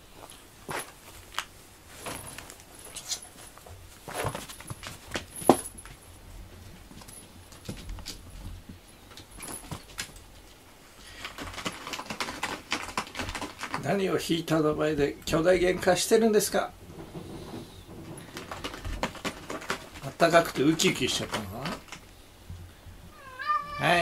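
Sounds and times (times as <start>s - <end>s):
cats scuffling: 0.0s - 24.0s.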